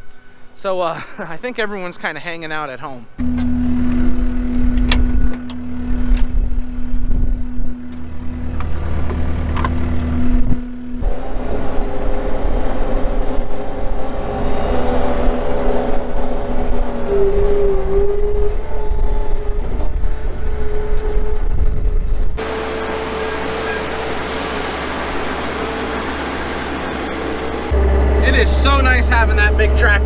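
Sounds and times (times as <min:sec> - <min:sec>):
skid steer engine under load: 0:03.2 - 0:21.7, 0:22.4 - 0:30.0.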